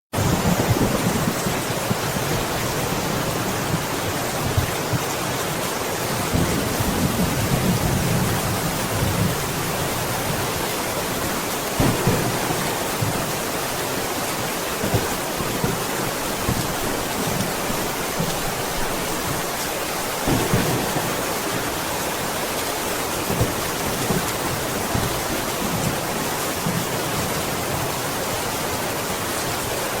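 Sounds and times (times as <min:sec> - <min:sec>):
steady rain: 0:00.1 - 0:30.0
sharp loud raindrops: 0:00.2 - 0:30.0.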